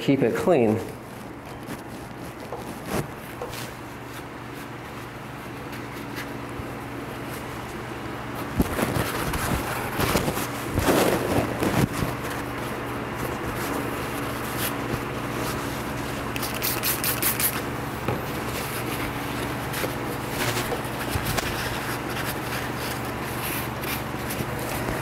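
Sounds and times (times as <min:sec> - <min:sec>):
paper towels rustling: 0:00.0 - 0:25.0
steady low hum: 0:00.0 - 0:25.0.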